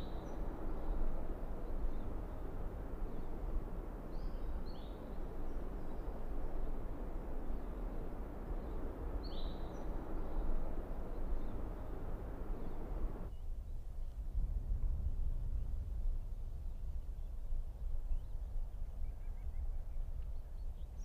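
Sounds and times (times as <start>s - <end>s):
low rumbling hiss: 0.0s - 21.0s.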